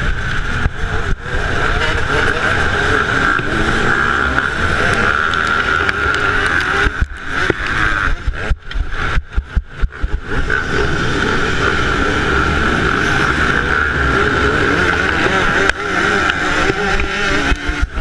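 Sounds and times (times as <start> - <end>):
motorcycle engine revving high: 0.0 - 18.0.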